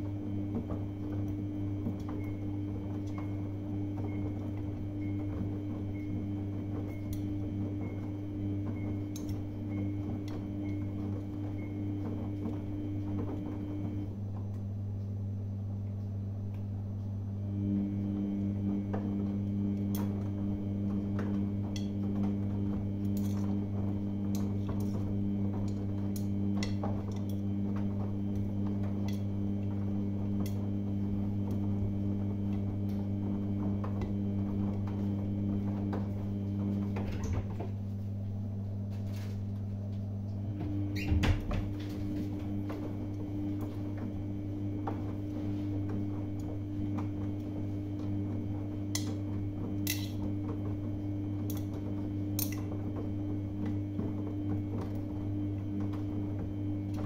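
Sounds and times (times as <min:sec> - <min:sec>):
washing machine motor humming: 0:00.0 - 0:57.0.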